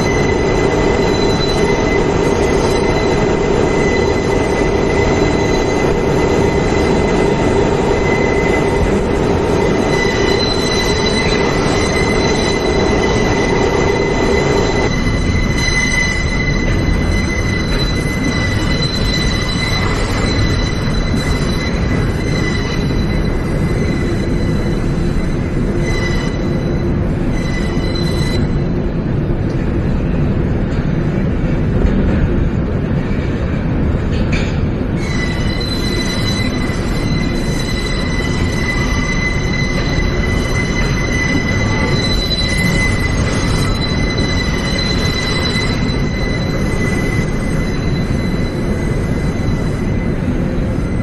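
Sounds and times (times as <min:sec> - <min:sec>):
high wheel squeal: 0:00.0 - 0:29.9, 0:34.2 - 0:51.0
subway train rumble: 0:00.0 - 0:51.0.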